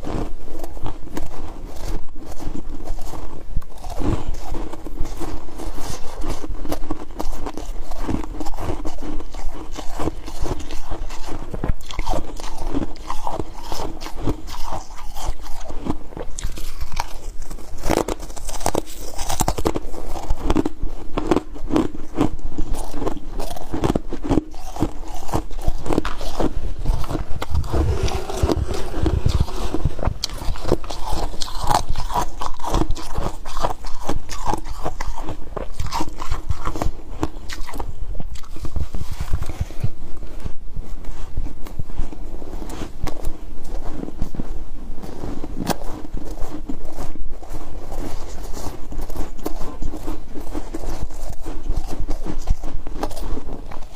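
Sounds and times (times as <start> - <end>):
crunching and chewing frost: 0.0 - 53.9.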